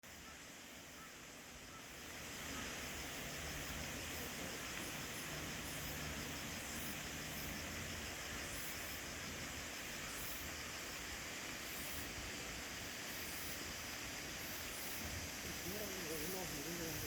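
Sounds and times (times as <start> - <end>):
outdoor hiss and low rumble: 0.0 - 17.0.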